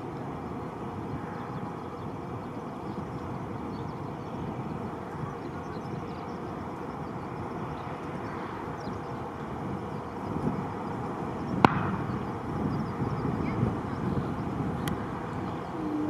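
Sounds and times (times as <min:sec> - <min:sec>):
low rumble of airport ambience: 0:00.0 - 0:16.0.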